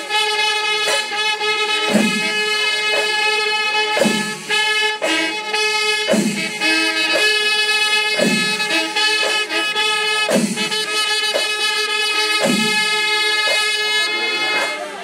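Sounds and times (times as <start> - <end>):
reedy wind instrument tone: 0.0 - 15.0.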